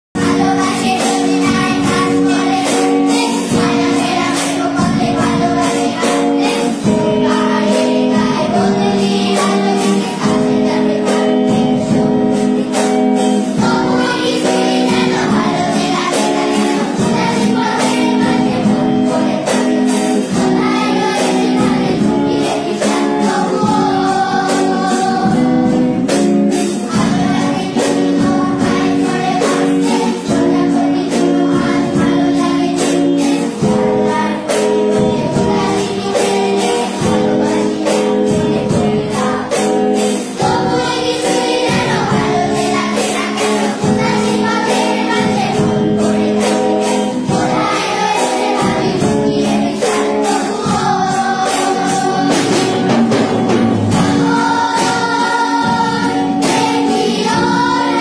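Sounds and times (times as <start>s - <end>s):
children singing in unison: 0.2s - 58.0s
strummed guitar: 0.2s - 58.0s.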